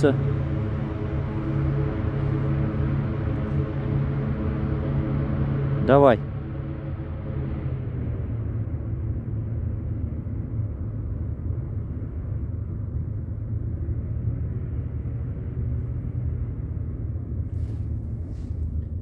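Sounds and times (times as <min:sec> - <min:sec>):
distant engine rumble: 0:00.0 - 0:19.0.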